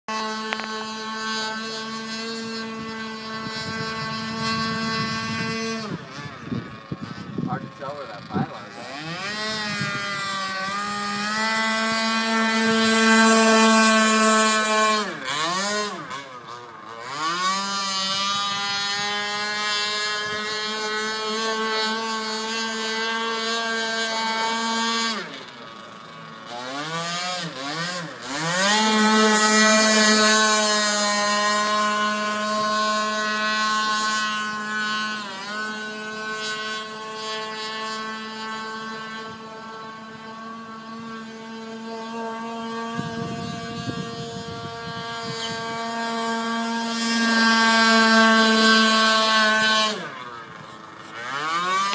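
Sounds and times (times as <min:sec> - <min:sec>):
small two-stroke boat engine buzzing: 0:00.1 - 0:51.9.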